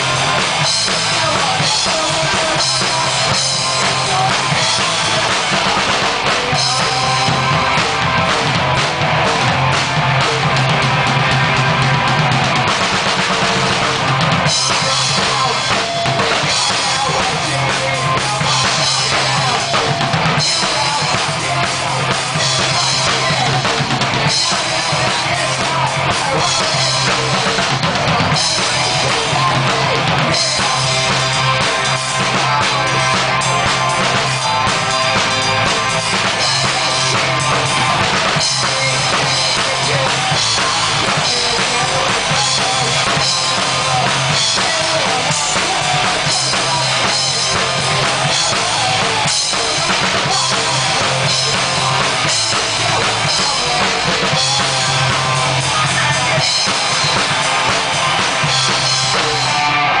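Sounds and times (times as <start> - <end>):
band playing live: 0.0 - 60.0
bass drum and snare beat: 0.0 - 60.0
low bass notes: 0.0 - 60.0.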